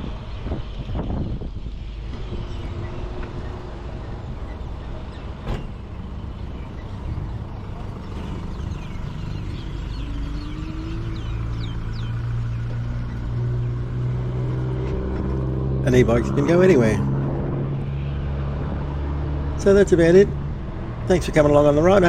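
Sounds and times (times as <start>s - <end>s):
motor vehicles rumbling: 0.0s - 22.0s.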